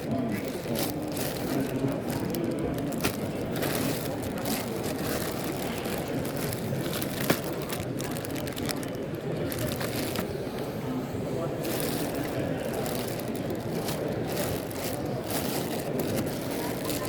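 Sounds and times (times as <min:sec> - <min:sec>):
crowd hubbub: 0:00.0 - 0:17.0.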